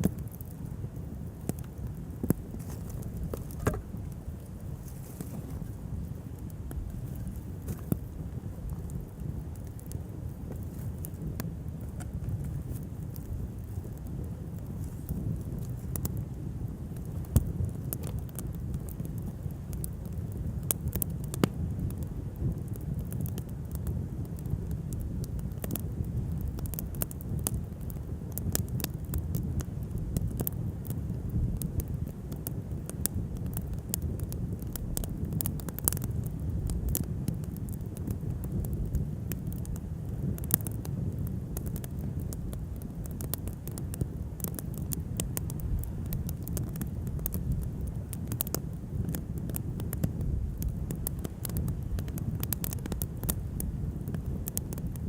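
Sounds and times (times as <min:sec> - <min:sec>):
wind rumble on microphone: 0:00.0 - 0:55.0
wood fire crackling: 0:00.0 - 0:55.0.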